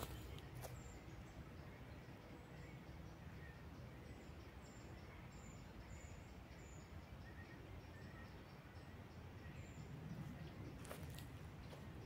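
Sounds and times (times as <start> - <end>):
lower bird chirps: 0.0 - 12.0.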